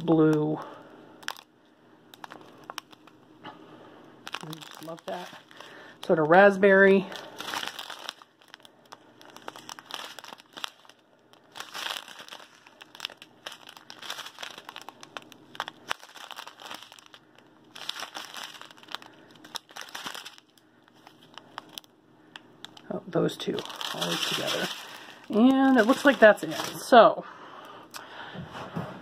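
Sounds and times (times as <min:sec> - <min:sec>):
plastic bags crinkling: 0:01.2 - 0:01.5, 0:02.1 - 0:03.2, 0:04.2 - 0:27.2.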